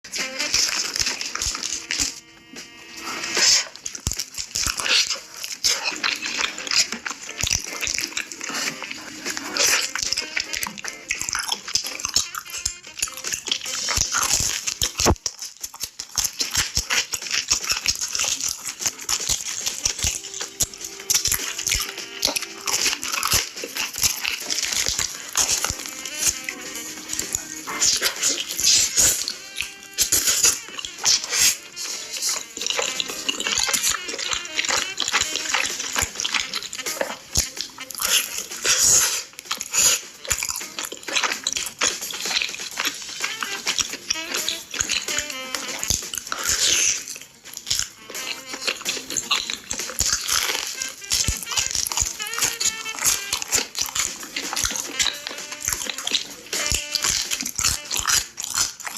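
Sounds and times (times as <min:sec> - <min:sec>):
chewing pizza: 0:00.0 - 0:58.9
mouth smacks: 0:00.0 - 0:58.9.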